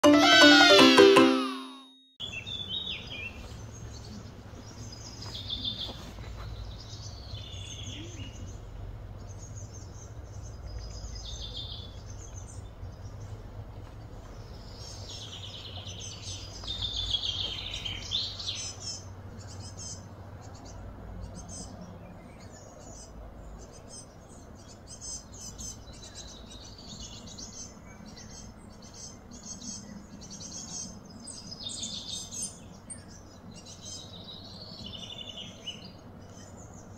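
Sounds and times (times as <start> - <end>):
wild birds chirping: 2.2 - 36.9.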